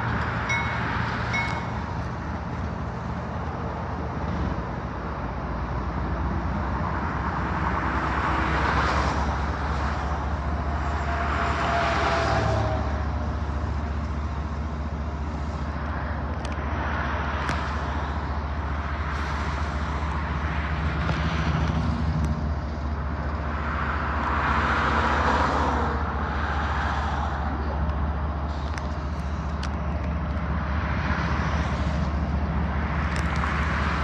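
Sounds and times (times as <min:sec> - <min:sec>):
diesel locomotive engines droning: 0:00.0 - 0:34.0.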